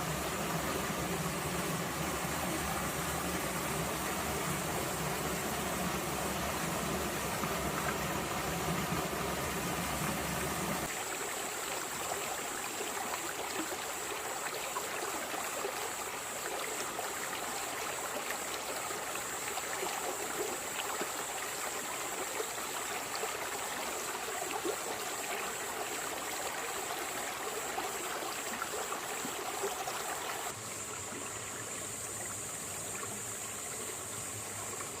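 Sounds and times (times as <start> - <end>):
stream babbling over rocks: 0.0 - 33.1.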